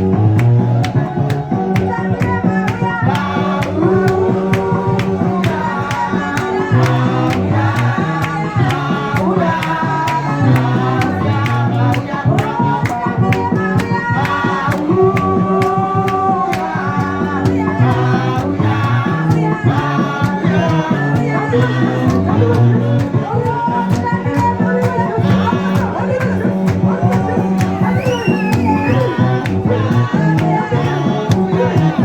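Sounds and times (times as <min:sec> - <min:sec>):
bass line: 0:00.0 - 0:32.0
gospel singing voices: 0:00.0 - 0:32.0
steady drum beat: 0:00.0 - 0:32.0.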